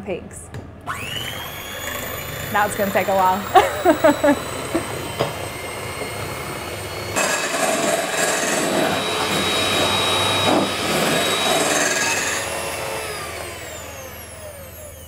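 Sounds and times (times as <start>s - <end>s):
electric hand mixer whisking: 0.9s - 15.0s.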